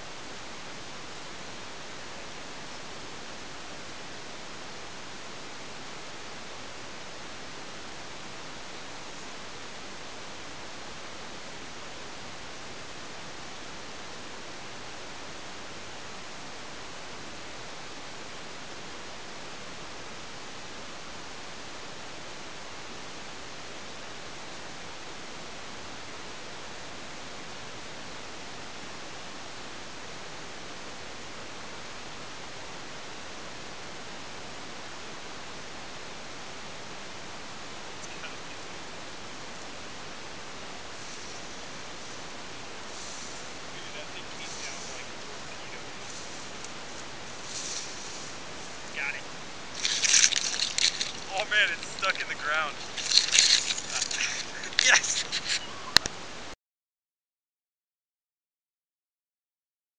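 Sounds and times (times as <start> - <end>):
steady microphone hiss: 0.0 - 56.6.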